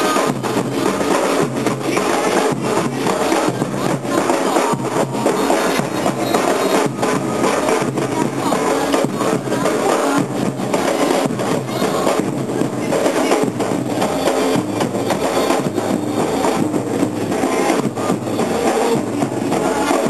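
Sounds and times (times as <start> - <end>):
marching drums playing: 0.0 - 20.0.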